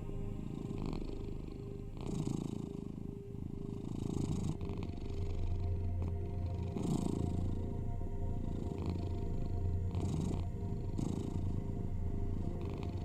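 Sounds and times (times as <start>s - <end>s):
cat purring: 0.0s - 13.0s
low steady tone: 0.0s - 13.0s.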